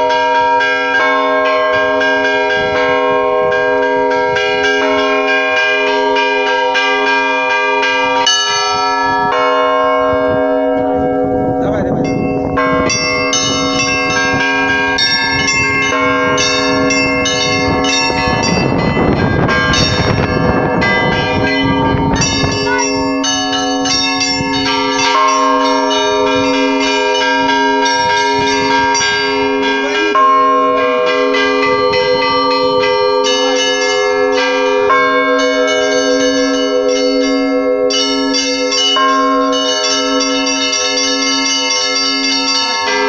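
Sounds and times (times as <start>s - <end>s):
low bell struck: 0.0s - 43.0s
small bells clanging quickly: 0.0s - 43.0s.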